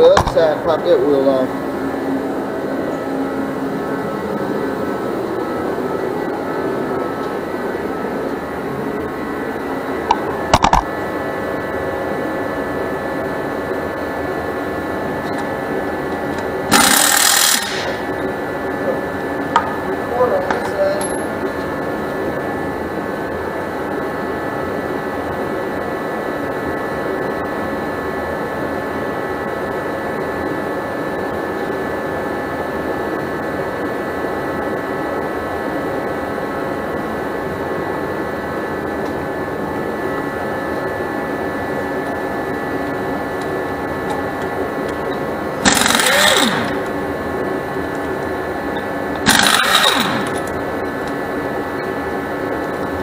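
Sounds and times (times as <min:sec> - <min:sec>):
machine hum: 0:00.0 - 0:53.0.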